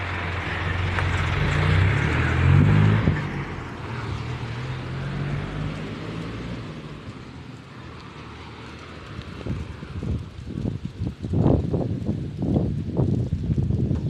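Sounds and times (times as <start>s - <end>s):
motor vehicle engine: 0.0s - 11.8s.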